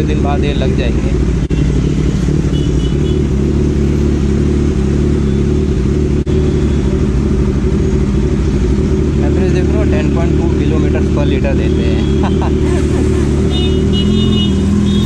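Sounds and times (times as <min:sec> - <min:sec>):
motorcycle engine idling: 0:00.0 - 0:15.0
road traffic: 0:00.0 - 0:15.0.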